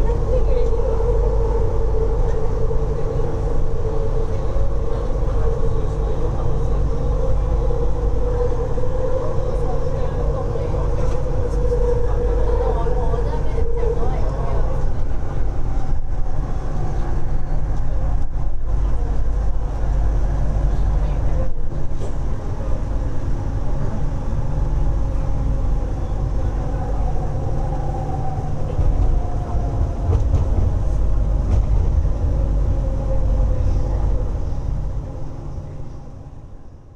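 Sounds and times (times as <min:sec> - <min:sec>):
faint train whine: 0:00.0 - 0:36.9
train rumble: 0:00.0 - 0:36.9.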